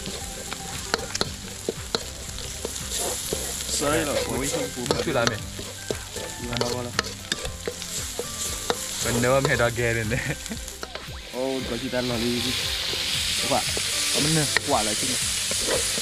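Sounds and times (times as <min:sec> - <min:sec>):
metal spoon scraping a wok: 0:00.0 - 0:09.6, 0:12.5 - 0:16.0
paste sizzling in oil: 0:00.0 - 0:16.0.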